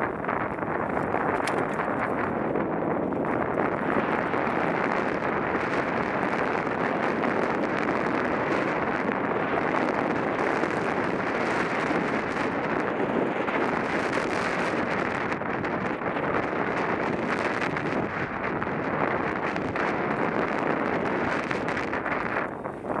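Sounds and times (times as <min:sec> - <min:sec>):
bike tyres rolling on dirt: 0:00.0 - 0:23.0
wind rushing on microphone: 0:00.0 - 0:23.0.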